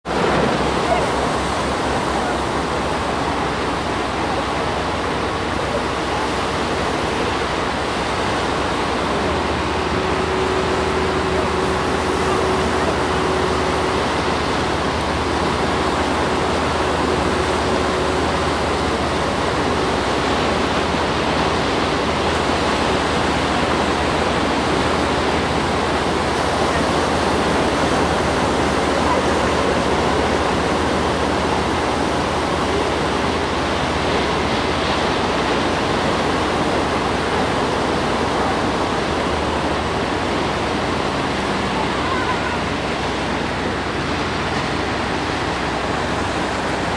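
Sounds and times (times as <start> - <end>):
surf breaking: 0.0 - 46.9
thin steady whine: 0.1 - 46.9.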